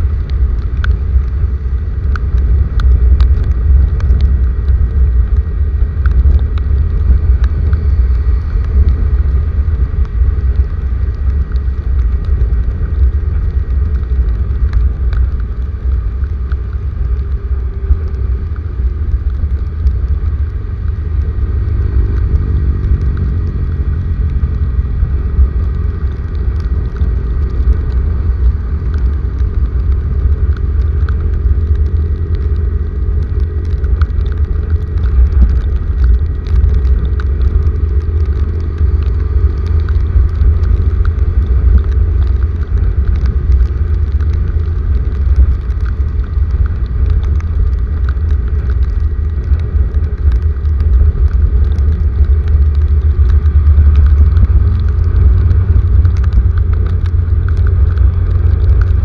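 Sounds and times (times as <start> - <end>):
low rumble of rainstorm: 0.0 - 59.0
raindrops ticking: 0.0 - 59.0.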